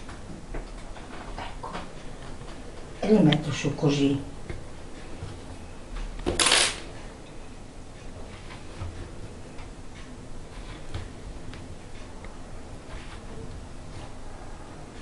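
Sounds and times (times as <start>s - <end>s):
low room background: 0.0s - 15.0s.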